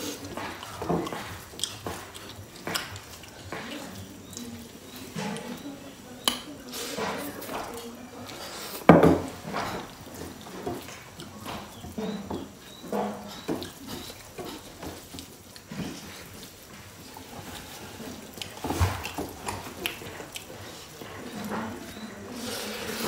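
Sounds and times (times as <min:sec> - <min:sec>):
chewing and lip-smacking: 0:00.0 - 0:23.0.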